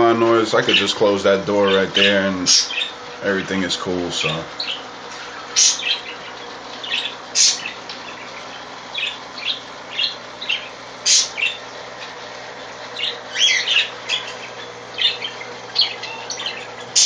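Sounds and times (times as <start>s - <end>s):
parakeets chirping: 0.5s - 17.0s.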